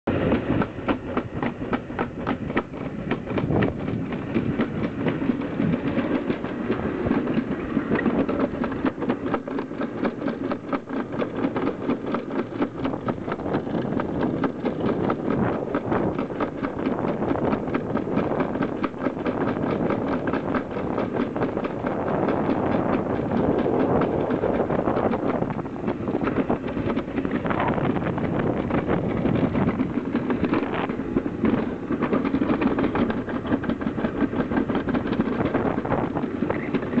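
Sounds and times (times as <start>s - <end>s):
sled rumbling down metal track: 0.1s - 37.0s.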